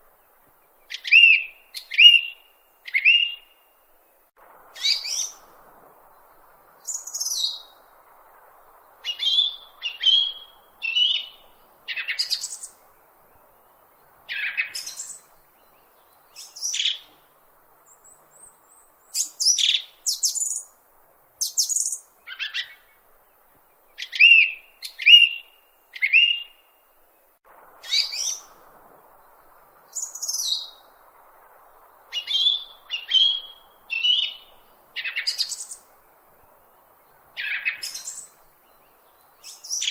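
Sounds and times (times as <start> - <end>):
bird chirping: 0.0 - 4.2, 4.8 - 20.8, 21.4 - 39.9.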